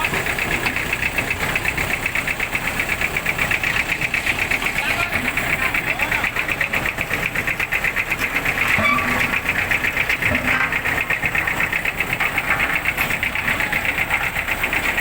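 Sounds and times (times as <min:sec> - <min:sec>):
construction machine engine pulsing: 0:00.0 - 0:15.0.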